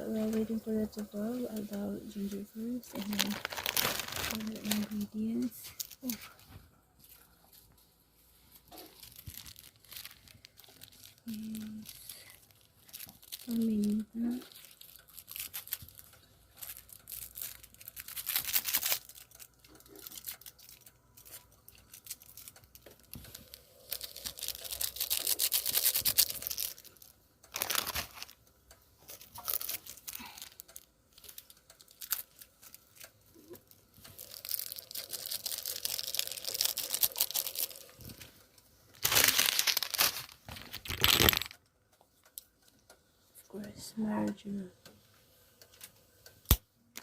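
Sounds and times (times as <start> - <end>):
rustling and crinkling: 0.0 - 42.9.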